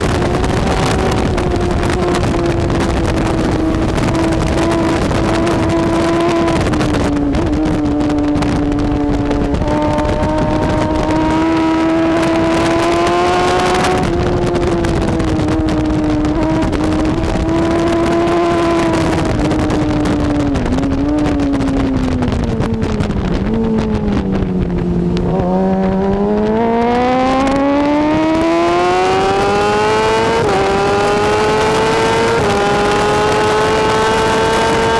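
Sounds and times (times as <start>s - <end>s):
motorcycle engine running hard: 0.0s - 34.9s.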